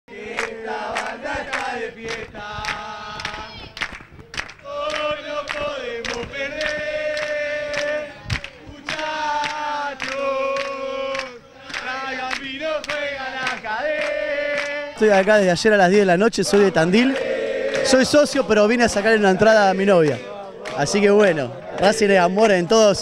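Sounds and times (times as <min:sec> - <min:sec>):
crowd singing a chant: 0:00.1 - 0:23.0
rhythmic handclaps: 0:00.1 - 0:23.0.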